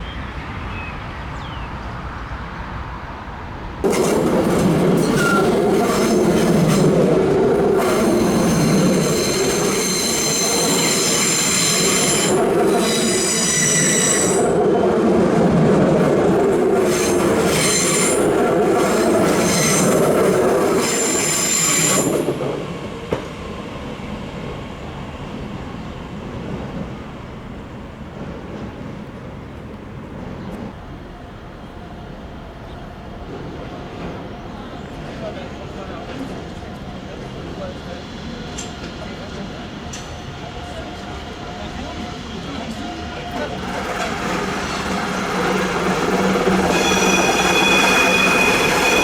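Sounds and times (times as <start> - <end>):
train wheels rumbling on track: 3.2 - 49.0
train wheels squealing on rails: 3.8 - 27.0, 30.4 - 49.0.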